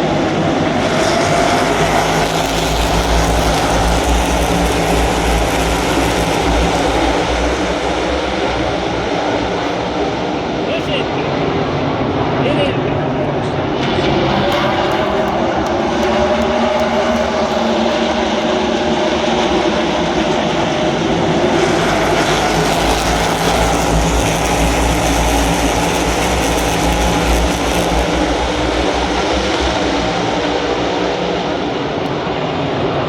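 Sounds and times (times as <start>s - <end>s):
race cars passing at speed: 0.0s - 33.0s.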